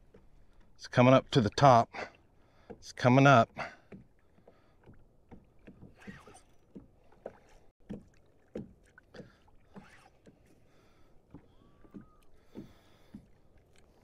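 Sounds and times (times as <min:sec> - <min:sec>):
small waves lapping hull: 0:00.0 - 0:14.0.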